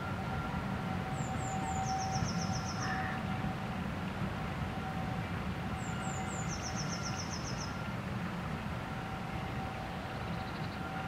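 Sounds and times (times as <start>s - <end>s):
distant steam train rumble: 0.0s - 11.0s.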